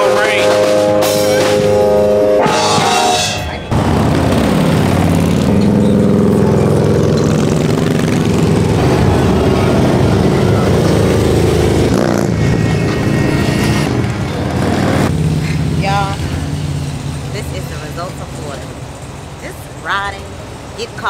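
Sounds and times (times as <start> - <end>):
motorcycle engine running: 0.0 - 17.2
road noise: 0.0 - 21.0.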